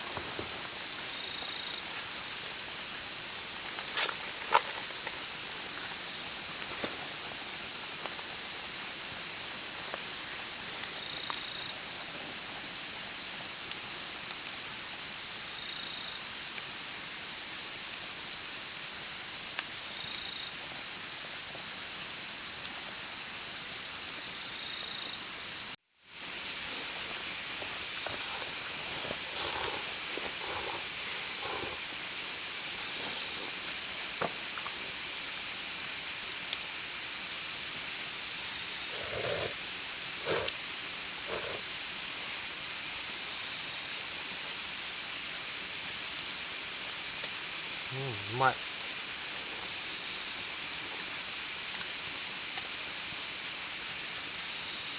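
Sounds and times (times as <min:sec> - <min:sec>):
high-pitched insect trill: 0:00.0 - 0:11.7, 0:22.1 - 0:54.9
outdoor hiss: 0:00.0 - 0:54.9.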